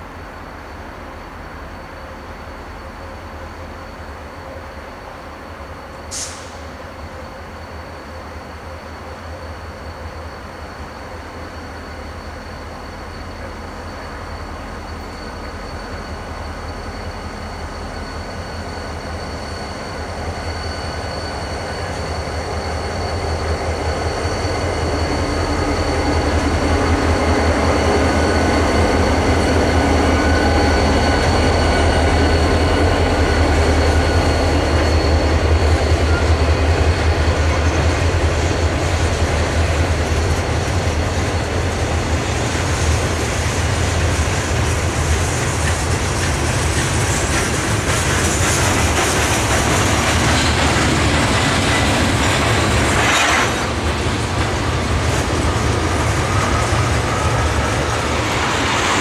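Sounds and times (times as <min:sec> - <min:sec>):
freight train rumble: 0:00.0 - 0:59.0
high wheel squeal: 0:02.1 - 0:59.0
freight cars rolling on rails: 0:07.1 - 0:59.0.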